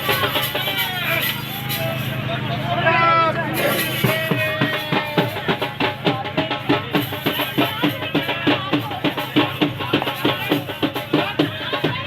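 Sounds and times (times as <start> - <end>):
drum-led music with fast beat: 0.0 - 2.5, 3.6 - 12.0.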